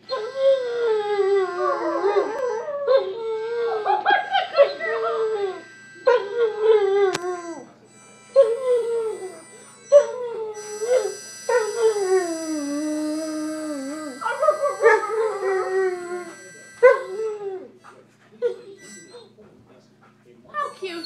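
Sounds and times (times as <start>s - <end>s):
dog howling: 0.0s - 7.7s, 8.4s - 17.8s
harmonica notes: 0.0s - 19.4s, 20.5s - 21.0s.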